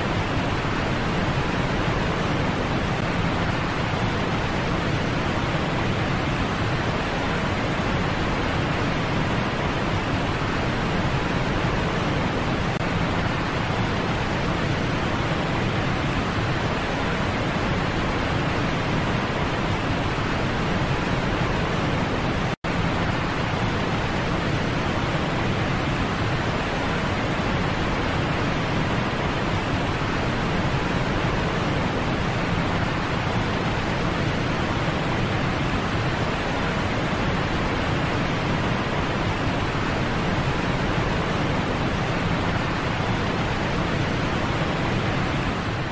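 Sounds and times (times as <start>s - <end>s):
rushing falling water: 0.0s - 45.9s.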